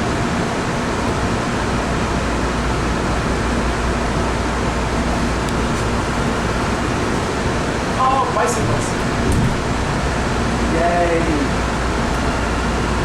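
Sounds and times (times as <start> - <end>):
subway car rumble and hum: 0.0 - 13.0.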